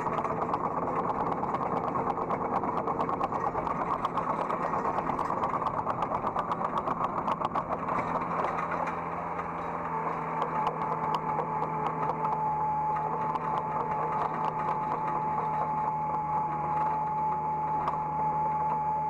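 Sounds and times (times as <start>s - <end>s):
continuous rattle of clicks: 0.0s - 19.0s
diesel engine running: 0.0s - 19.0s.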